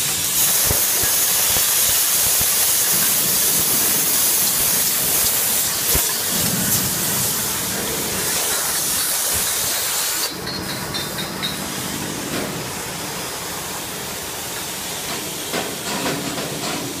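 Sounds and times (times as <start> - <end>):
bottle conveyor running: 0.0 - 15.3
filling machine hissing: 0.0 - 15.8.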